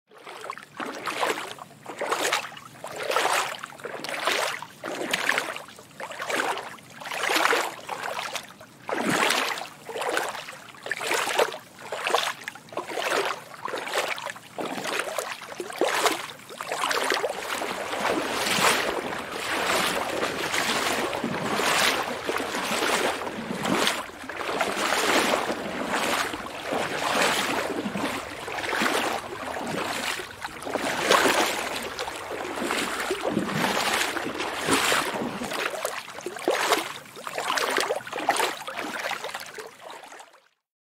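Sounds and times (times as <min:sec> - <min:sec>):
footsteps wading through water: 0:00.1 - 0:40.6.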